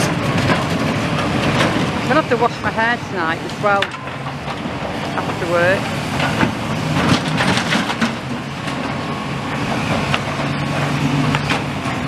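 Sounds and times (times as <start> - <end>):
vehicle engine: 0.0 - 12.0.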